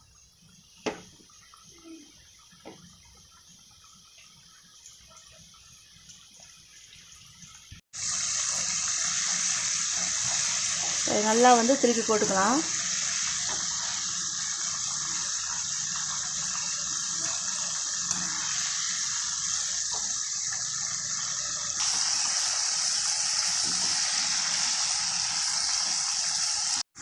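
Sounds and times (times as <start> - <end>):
chicken sizzling in hot oil: 0.0 - 27.0.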